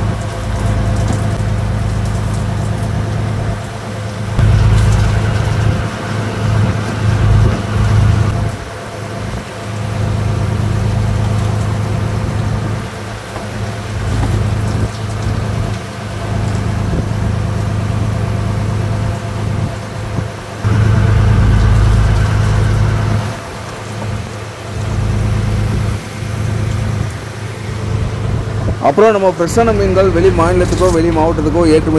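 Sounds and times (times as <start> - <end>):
boat engine rumbling: 0.0 - 31.9.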